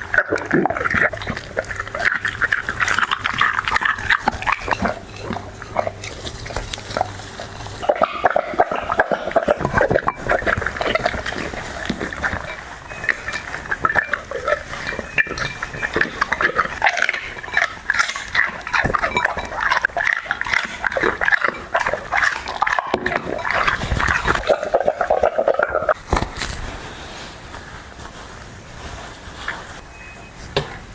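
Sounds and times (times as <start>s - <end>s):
dog chewing and smacking: 0.0s - 26.6s.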